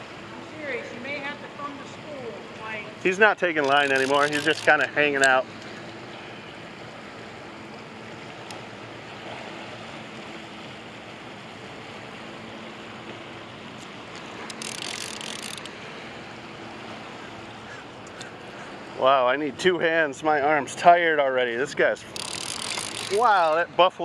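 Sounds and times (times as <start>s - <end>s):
turbulent water current rushing: 0.0s - 24.0s.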